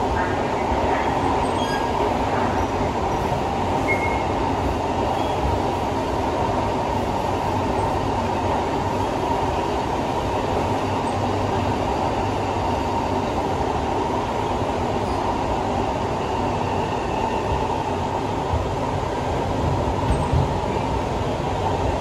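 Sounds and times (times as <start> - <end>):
metro train interior rumble: 0.0 - 22.0.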